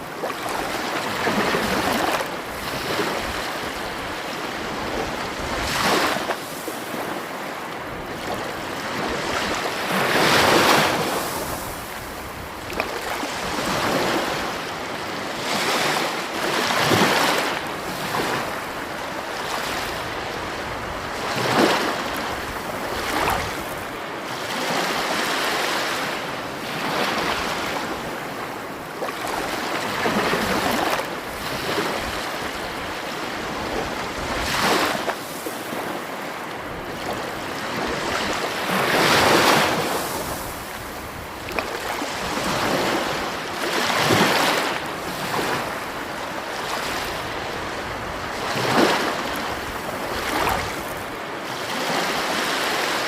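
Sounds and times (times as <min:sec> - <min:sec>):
sea waves breaking on shore: 0:00.0 - 0:53.0.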